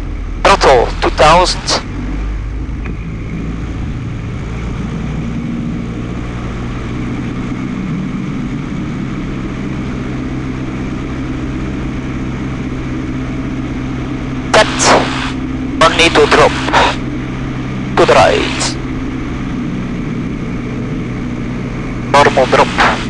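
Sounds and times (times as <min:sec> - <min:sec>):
light aircraft engine and propeller: 0:00.0 - 0:23.0.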